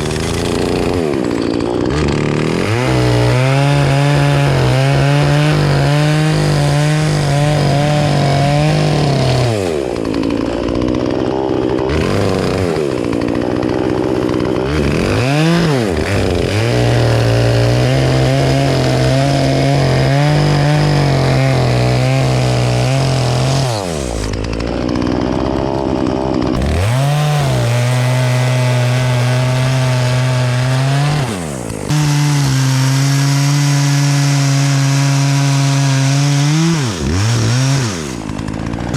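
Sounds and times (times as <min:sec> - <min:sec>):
chainsaw cutting a tree: 0:00.0 - 0:38.9.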